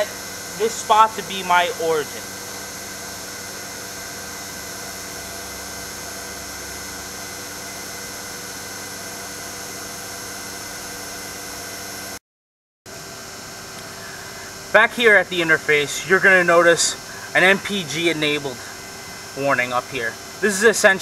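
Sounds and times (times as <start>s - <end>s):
vacuum pump droning: 0.0s - 12.2s, 12.9s - 21.0s.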